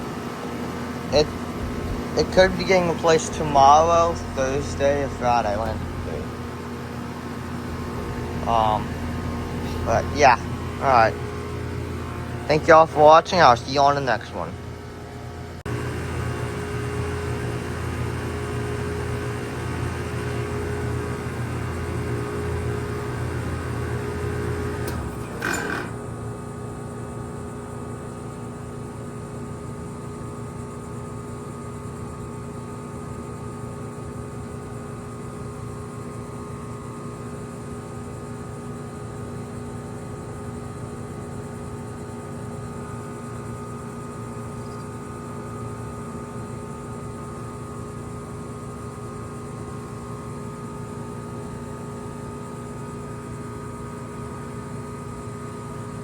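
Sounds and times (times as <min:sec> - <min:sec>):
heat pump unit humming: 0:00.0 - 0:56.0.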